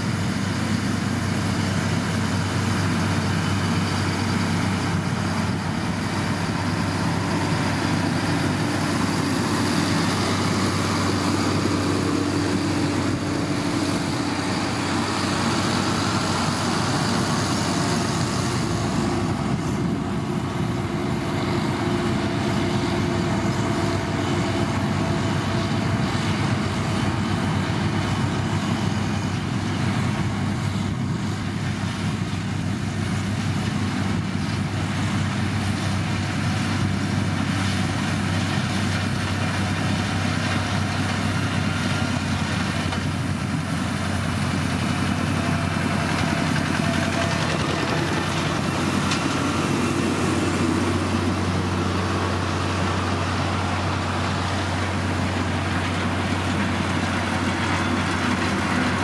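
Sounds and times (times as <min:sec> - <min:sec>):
diesel engine humming: 0:00.0 - 0:59.0.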